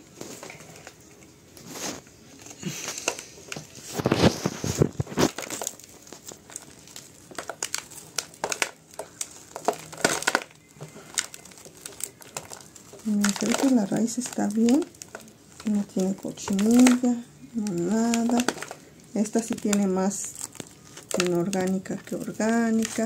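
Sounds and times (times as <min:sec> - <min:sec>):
hands crumbling dry soil: 0:01.6 - 0:23.0.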